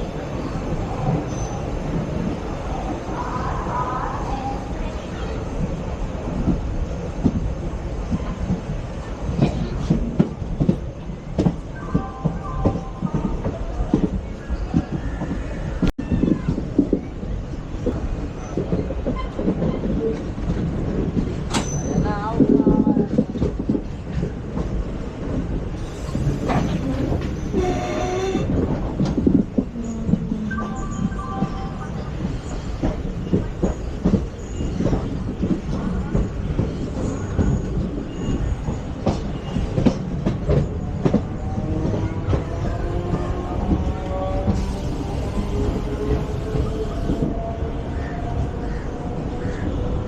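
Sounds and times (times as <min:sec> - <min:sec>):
train rumbling on track: 0:00.0 - 0:50.0.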